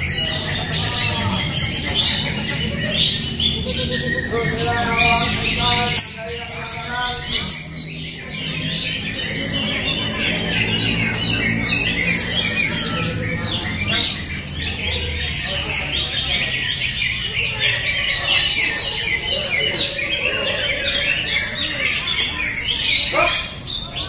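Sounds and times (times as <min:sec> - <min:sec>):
many birds singing: 0:00.0 - 0:24.0
people murmuring: 0:00.0 - 0:24.0.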